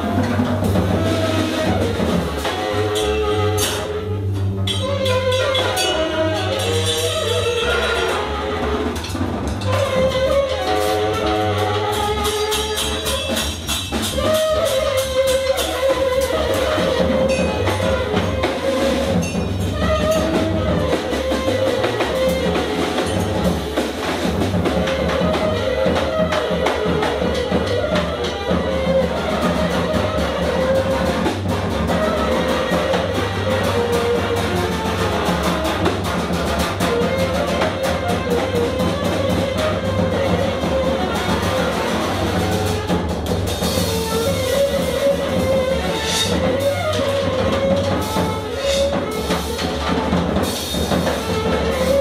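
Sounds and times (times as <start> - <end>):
busy drumming: 0.0 - 52.0
double bass: 0.0 - 52.0
tenor saxophone: 0.0 - 52.0.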